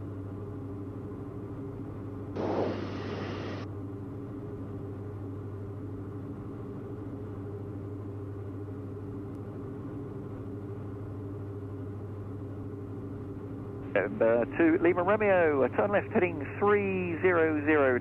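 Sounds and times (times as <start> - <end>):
aircraft engines humming in flight: 0.0 - 18.0.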